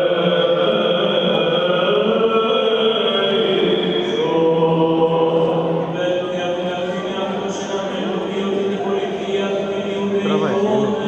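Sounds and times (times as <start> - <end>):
choral chant with held notes: 0.0 - 11.0.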